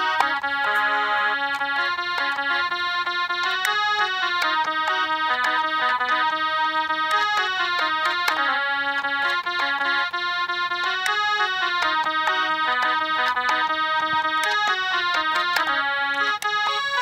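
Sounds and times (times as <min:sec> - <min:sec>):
electronic keyboard melody: 0:00.0 - 0:17.0.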